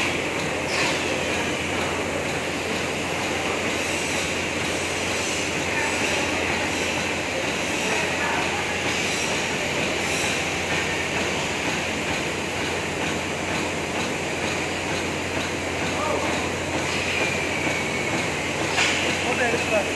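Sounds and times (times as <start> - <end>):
low machine hum: 0.0 - 19.9.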